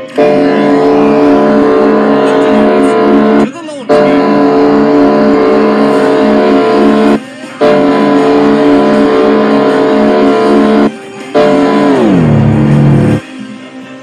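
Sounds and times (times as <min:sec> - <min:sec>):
electric guitar chord: 0:00.0 - 0:13.2.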